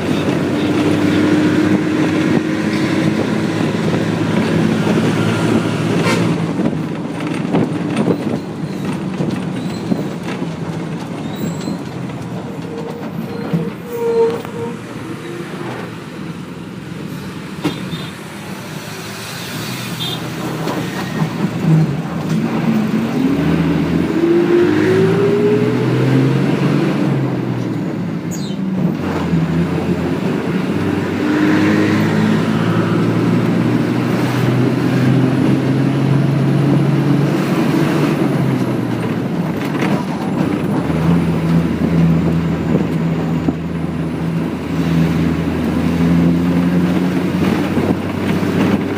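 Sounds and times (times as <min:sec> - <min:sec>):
bus engine droning: 0:00.0 - 0:48.9
road noise: 0:00.0 - 0:48.9.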